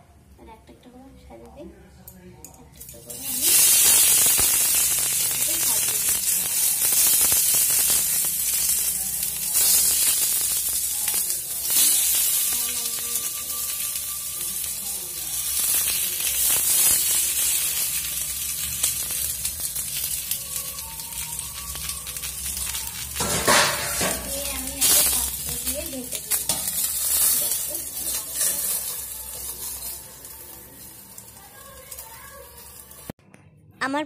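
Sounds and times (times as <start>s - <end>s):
fish sizzling in oil on griddle: 3.0s - 33.2s.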